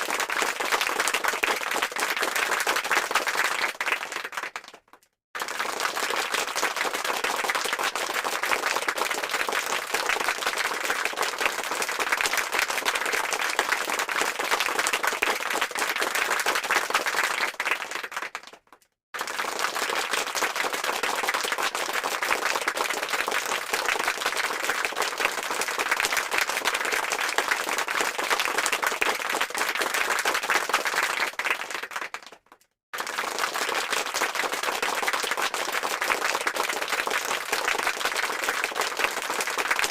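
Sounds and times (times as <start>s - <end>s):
crowd applause: 0.0s - 4.8s, 5.4s - 18.6s, 19.2s - 32.4s, 33.0s - 39.9s.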